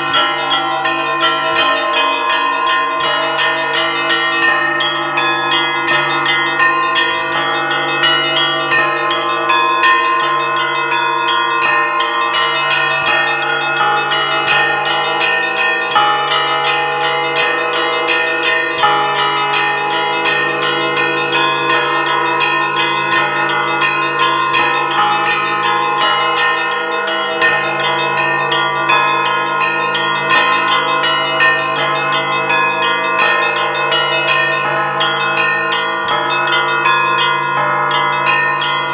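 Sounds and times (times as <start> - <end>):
church bells ringing a peal: 0.0 - 38.9.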